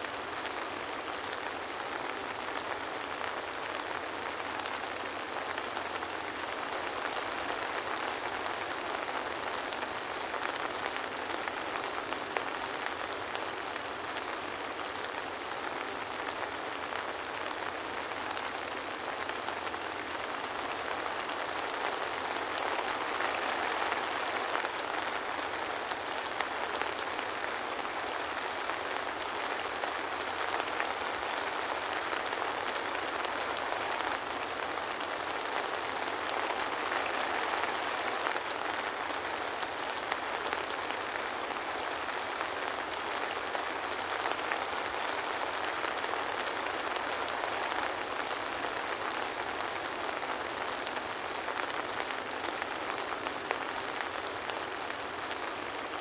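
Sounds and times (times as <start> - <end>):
soft rain pattering: 0.0 - 56.0.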